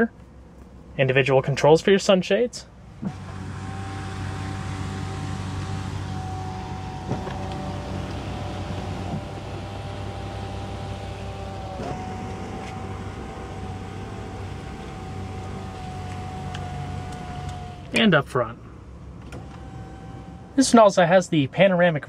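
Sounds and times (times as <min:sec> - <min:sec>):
steady low hum: 0:00.0 - 0:22.0
sunshade motors whining: 0:02.8 - 0:22.0.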